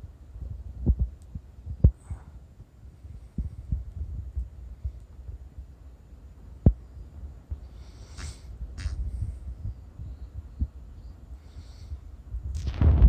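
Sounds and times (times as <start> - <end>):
low microphone rumble: 0.0 - 13.0.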